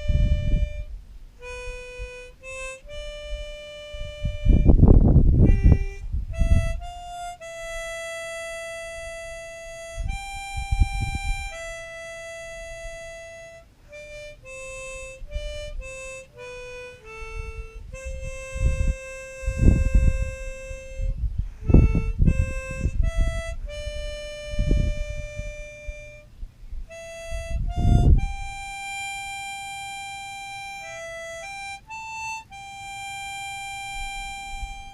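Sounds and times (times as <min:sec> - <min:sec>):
low rumbles: 0:00.0 - 0:29.2
harmonica melody: 0:00.0 - 0:34.9.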